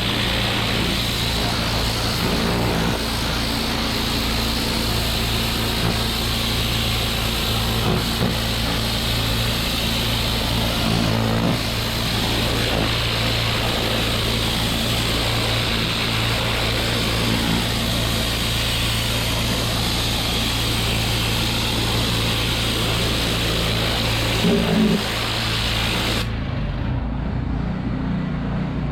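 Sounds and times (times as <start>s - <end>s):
water spray hissing: 0.0s - 26.3s
pressure washer engine running: 0.0s - 26.9s.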